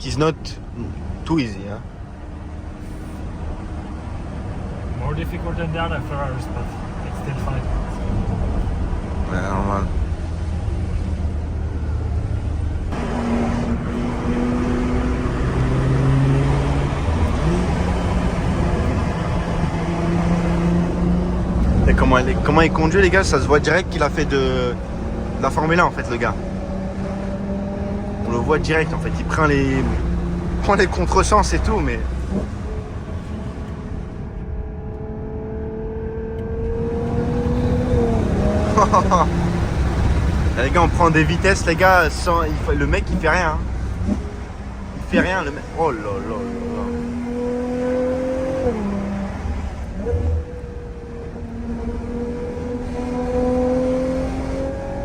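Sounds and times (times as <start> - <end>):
car engine from inside cabin: 0.0 - 55.0
low road rumble: 0.0 - 55.0.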